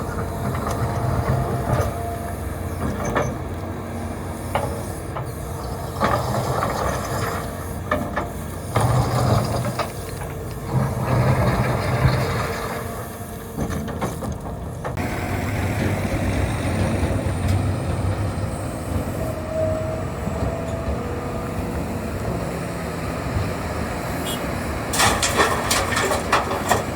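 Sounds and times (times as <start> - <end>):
excavator diesel engine under load: 0.0 - 26.9.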